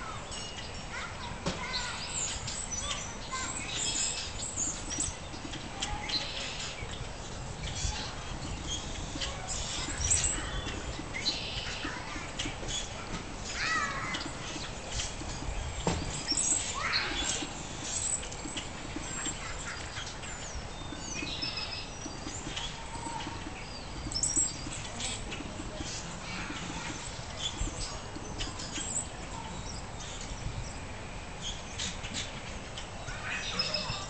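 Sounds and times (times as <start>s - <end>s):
birds chirping: 0.0s - 34.0s
outdoor background noise: 0.0s - 34.0s.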